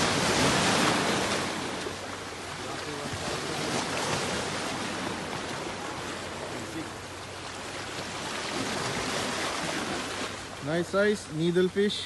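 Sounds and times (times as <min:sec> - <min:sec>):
waves breaking over rocks: 0:00.0 - 0:10.9.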